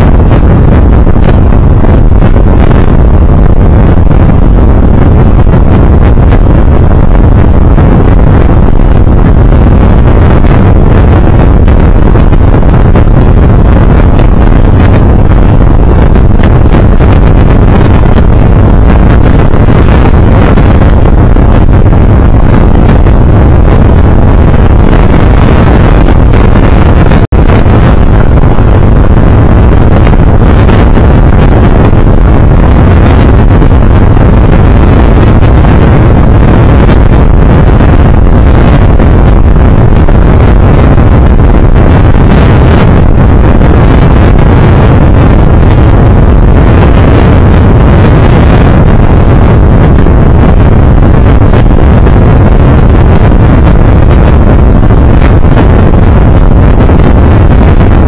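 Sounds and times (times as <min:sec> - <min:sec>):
wind buffeting microphone: 0:00.0 - 0:50.5.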